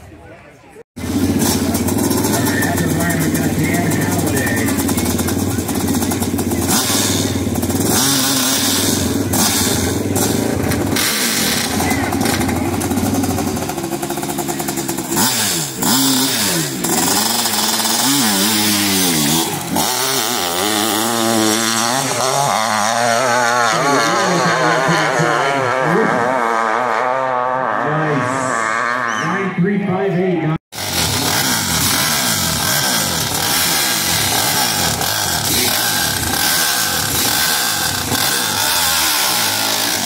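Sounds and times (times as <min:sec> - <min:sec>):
motorcycle engine revving: 0:01.0 - 0:29.5, 0:30.7 - 0:40.0.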